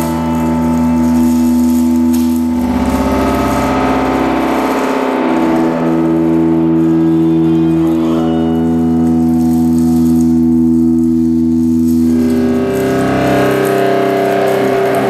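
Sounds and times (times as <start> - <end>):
sustained drone tones: 0.0 - 15.0.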